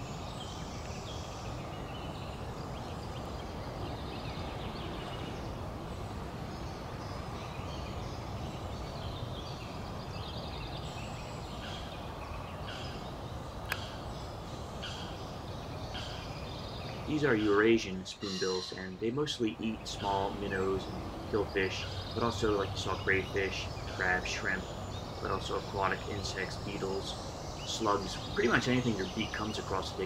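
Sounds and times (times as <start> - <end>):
small birds singing: 0.0 - 30.0
steady low noise: 0.0 - 30.0.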